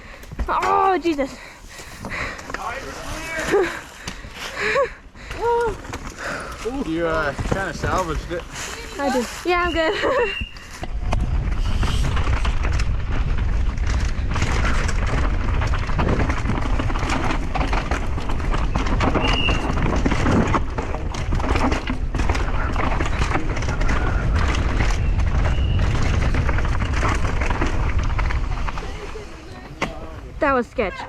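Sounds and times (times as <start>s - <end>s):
bike knocking and rattling: 0.0s - 31.0s
wind buffeting microphone: 2.0s - 30.9s.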